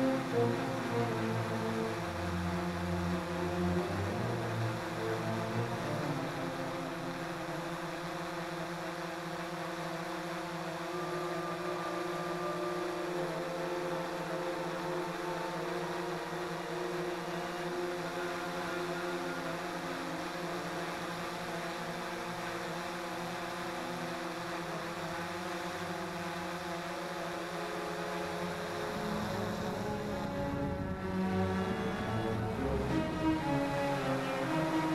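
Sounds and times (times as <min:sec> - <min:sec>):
quadcopter motors whirring: 0:05.8 - 0:34.9.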